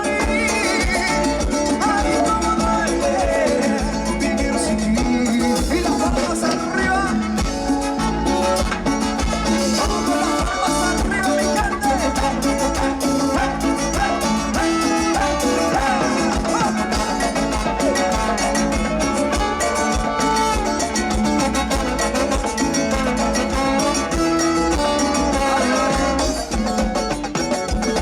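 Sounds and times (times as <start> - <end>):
live band playing dance music: 0.0 - 28.0.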